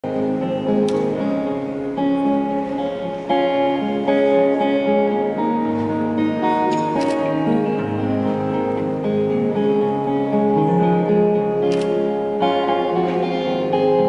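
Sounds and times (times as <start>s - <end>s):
acoustic guitars playing folk: 0.0s - 14.0s.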